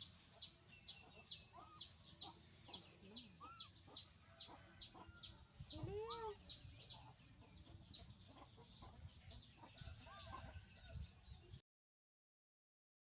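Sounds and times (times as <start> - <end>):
chicks peeping: 0.0 - 11.6.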